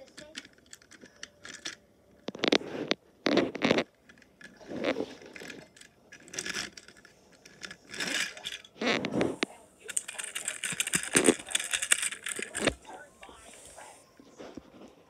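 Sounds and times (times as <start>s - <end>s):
scrapes and rustles: 0.0s - 15.0s.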